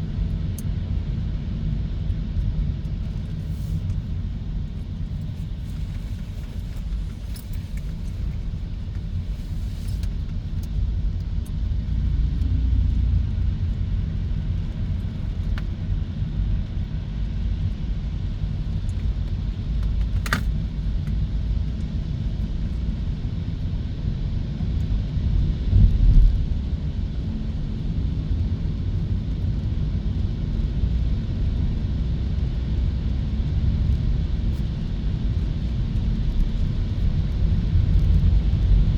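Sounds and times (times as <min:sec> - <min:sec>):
road and tyre rumble: 0:00.0 - 0:38.9.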